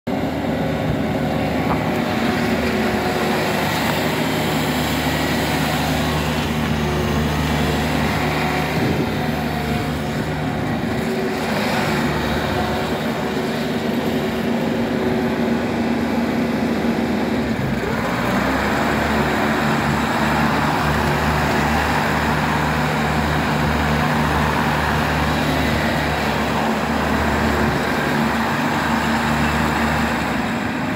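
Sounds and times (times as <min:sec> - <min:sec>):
mower diesel engine running: 0:00.1 - 0:30.9.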